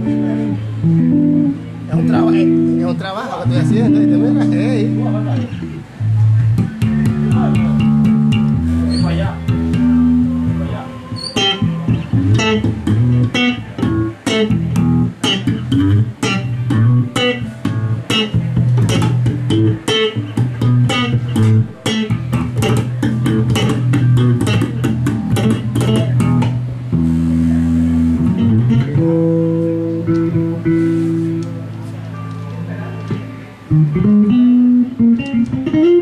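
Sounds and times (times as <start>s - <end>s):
electric bass guitar playing: 0.0s - 36.0s.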